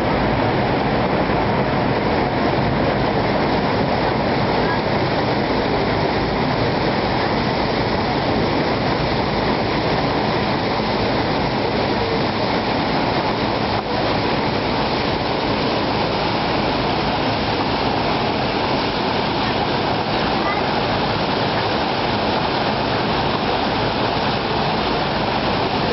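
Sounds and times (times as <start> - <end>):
ship motor rushing: 0.0 - 25.9
water washing along hull: 0.0 - 25.9.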